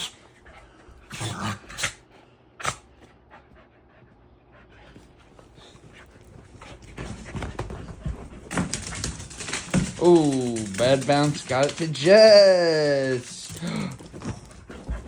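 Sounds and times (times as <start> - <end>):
dogs panting and scuffling: 0.0 - 15.0.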